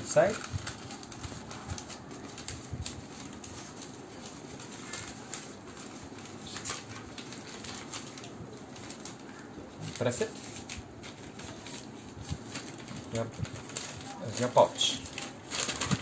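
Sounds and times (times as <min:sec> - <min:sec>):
newspaper rustling and crinkling: 0:00.0 - 0:16.0.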